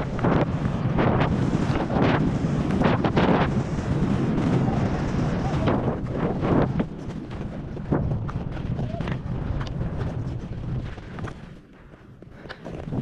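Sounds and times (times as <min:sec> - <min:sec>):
skis scraping over snow: 0:00.0 - 0:13.0
wind buffeting microphone: 0:00.0 - 0:13.0.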